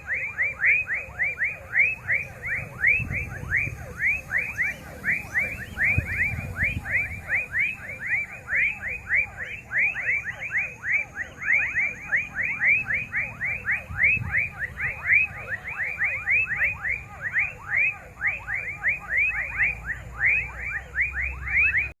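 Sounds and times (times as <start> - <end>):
chorus of chirping animals: 0.0 - 22.0.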